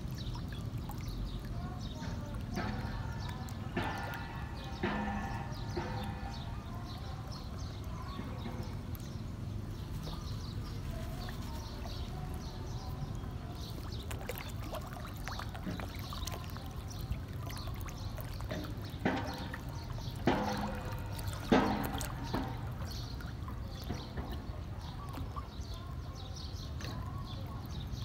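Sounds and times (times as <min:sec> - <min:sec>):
fish splashing at water surface: 0:00.0 - 0:28.0.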